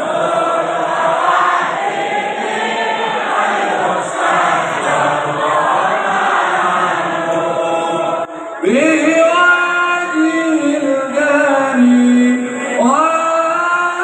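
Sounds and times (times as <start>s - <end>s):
men chanting over loudspeakers: 0.0s - 14.0s.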